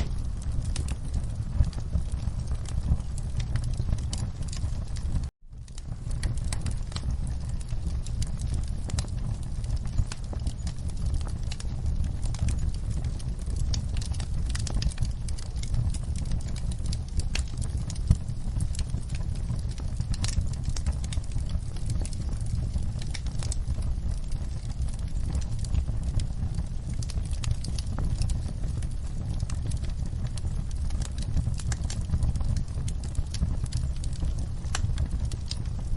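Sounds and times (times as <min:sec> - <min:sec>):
low rumble of flames: 0:00.0 - 0:35.9
wood fire crackling and popping: 0:00.0 - 0:35.9.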